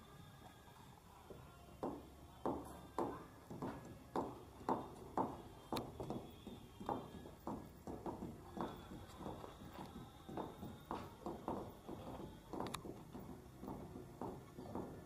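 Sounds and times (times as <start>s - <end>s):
footsteps on stone path: 1.8s - 15.0s.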